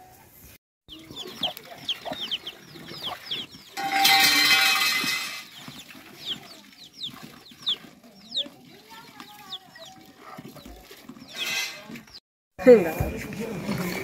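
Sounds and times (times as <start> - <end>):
chickens peeping and clucking: 0.9 - 12.2.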